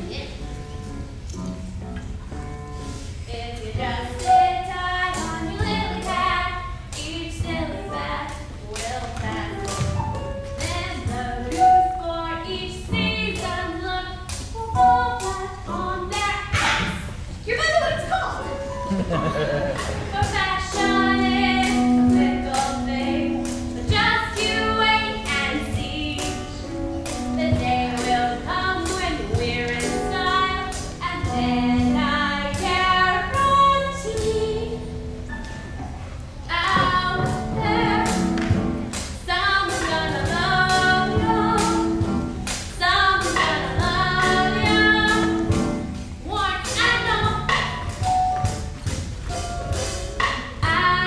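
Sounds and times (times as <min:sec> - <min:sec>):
instrumental accompaniment with beat: 0:00.4 - 0:12.0, 0:18.4 - 0:51.0.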